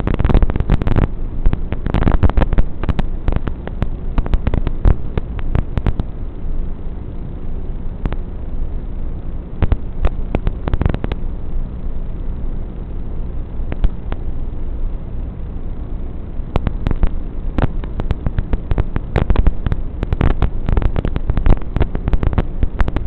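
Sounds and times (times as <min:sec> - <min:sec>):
static hiss with crackles: 0:00.0 - 0:23.0.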